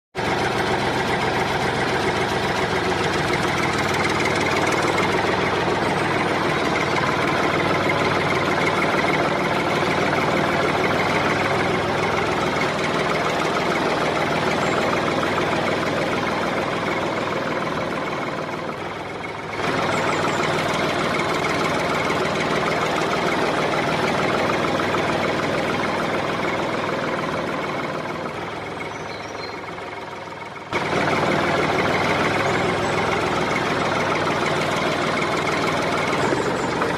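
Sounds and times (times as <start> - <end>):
tractor diesel engine running: 0.2 - 36.9.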